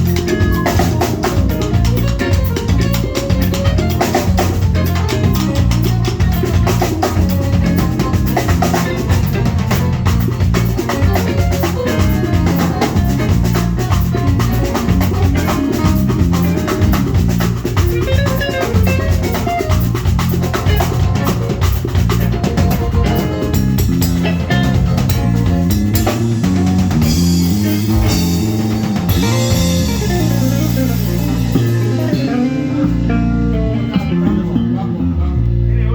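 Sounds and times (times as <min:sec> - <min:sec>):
drum kit beat: 0:00.0 - 0:35.6
bass: 0:00.0 - 0:35.9
guitar: 0:00.0 - 0:35.9.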